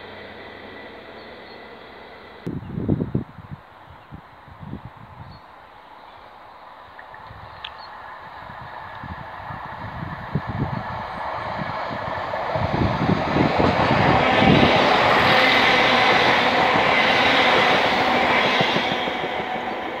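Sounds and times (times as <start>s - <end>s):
diesel train rumble: 0.0s - 3.5s, 6.2s - 20.0s.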